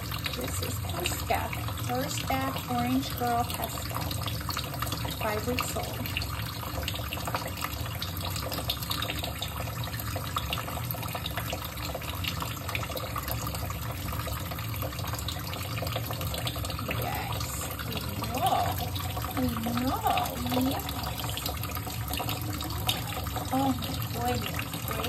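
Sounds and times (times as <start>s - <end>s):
faucet running into steel sink: 0.0s - 25.0s.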